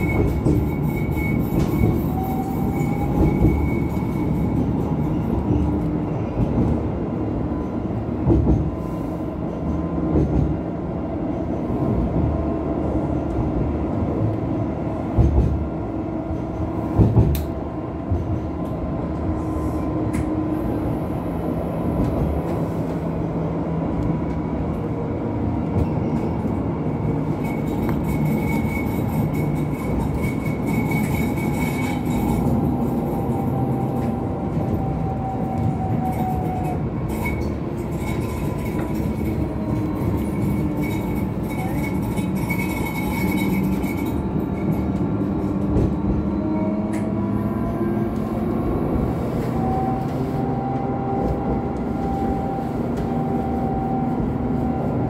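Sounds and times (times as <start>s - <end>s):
tram wheels rumbling on rails: 0.0s - 55.0s.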